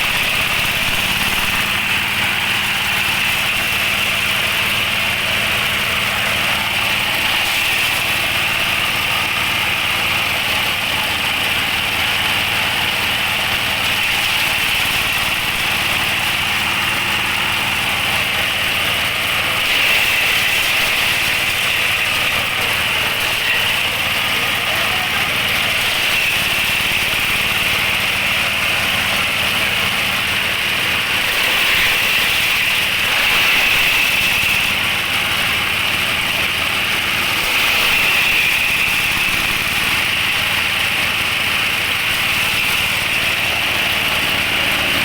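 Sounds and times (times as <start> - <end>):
shredder engine drone: 0.0 - 45.0.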